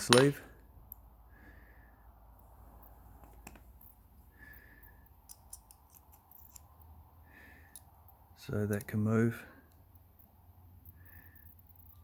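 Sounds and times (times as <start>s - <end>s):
faint steady tones: 0.0s - 12.0s.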